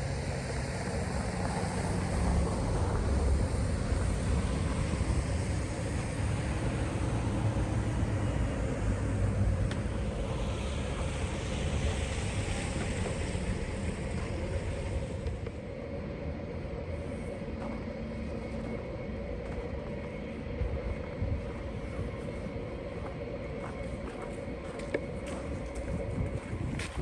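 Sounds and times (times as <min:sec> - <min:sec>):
constant hum: 0:00.0 - 0:27.0
low city rumble: 0:00.0 - 0:27.0.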